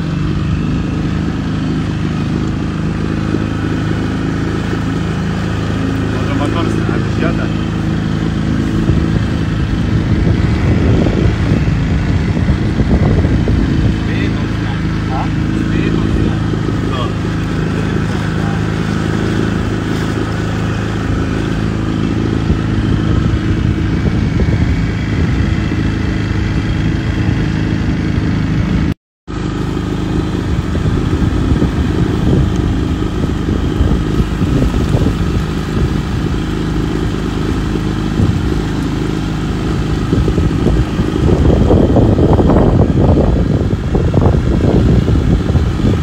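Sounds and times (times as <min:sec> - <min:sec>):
boat motor running: 0:00.0 - 0:46.0.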